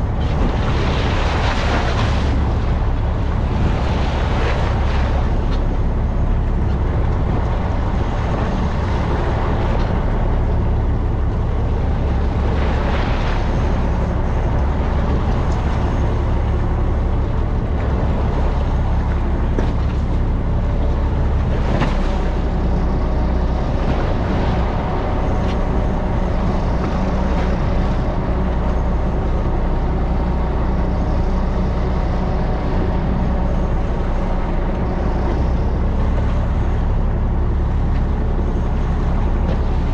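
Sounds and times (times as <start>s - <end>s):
boat engine droning: 0.0s - 39.9s
water rushing: 0.0s - 39.9s
water splashes: 0.0s - 39.9s
wind: 0.0s - 39.9s.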